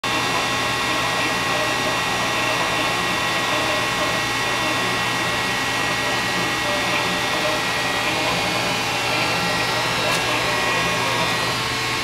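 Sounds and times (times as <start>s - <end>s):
machinery whirring hum: 0.0s - 12.0s.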